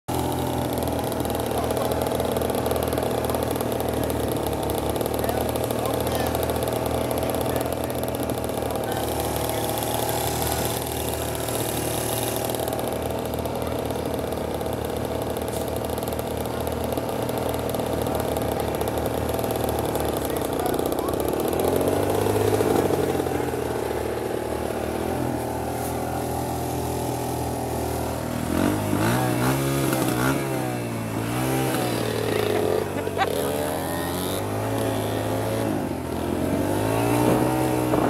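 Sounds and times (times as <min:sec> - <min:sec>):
dirtbike engines revving: 0:00.1 - 0:38.0.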